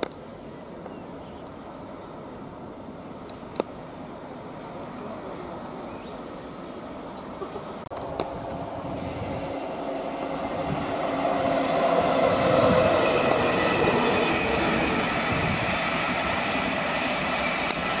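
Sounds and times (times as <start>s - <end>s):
train passing: 1.1s - 18.0s.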